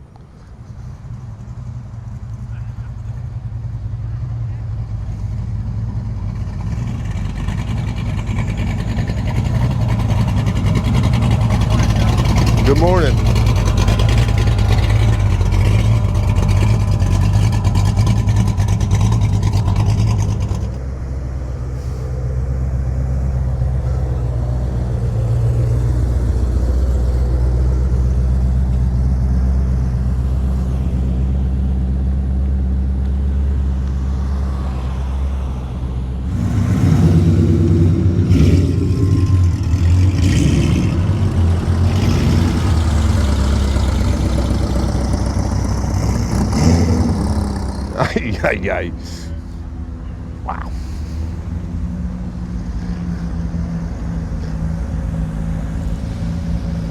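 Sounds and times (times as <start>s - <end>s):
car engines running low: 0.0s - 56.9s
loud car engine: 0.0s - 56.9s.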